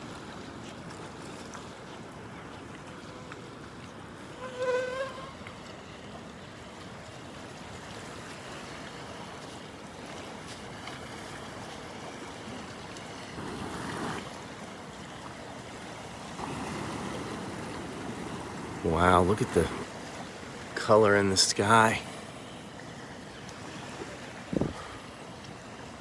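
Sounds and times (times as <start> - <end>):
ocean surf washing on beach: 0.0 - 26.0.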